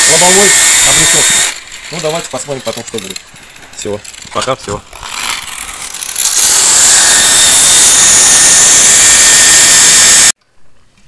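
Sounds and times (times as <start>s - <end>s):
power grinder grinding marble: 0.0s - 3.2s, 3.8s - 10.3s.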